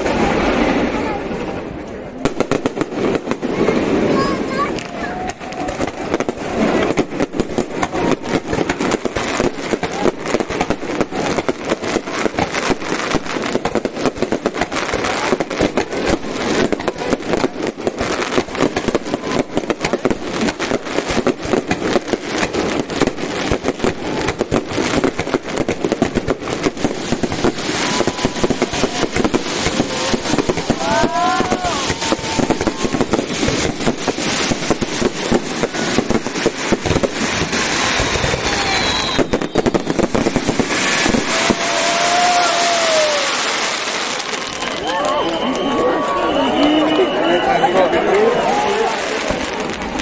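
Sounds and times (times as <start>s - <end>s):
firework shells bursting: 4.5s - 47.1s.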